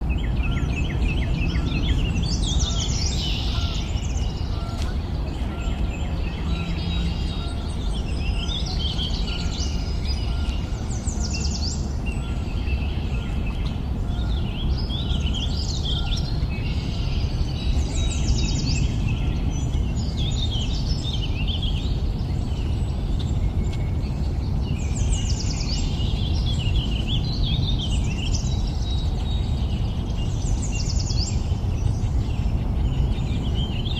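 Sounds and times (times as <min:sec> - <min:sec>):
low background rumble: 0:00.0 - 0:33.9
wild birds singing: 0:00.0 - 0:33.9.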